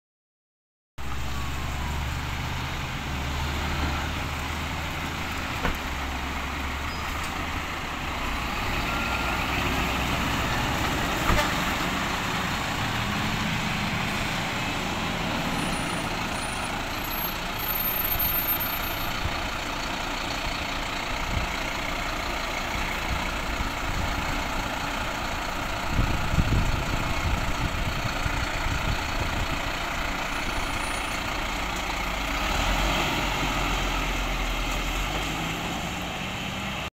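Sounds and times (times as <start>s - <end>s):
fire truck diesel engines rumbling: 1.0s - 36.9s.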